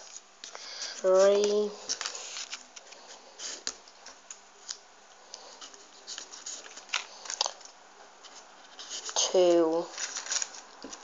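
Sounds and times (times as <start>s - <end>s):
paper rustling and scraping: 0.8s - 4.8s, 5.4s - 11.0s.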